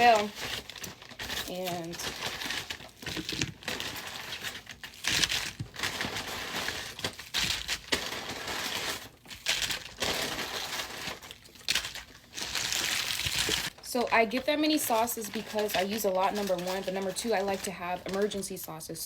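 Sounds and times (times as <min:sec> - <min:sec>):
paper bag and wrappers rustling: 0:00.0 - 0:19.0.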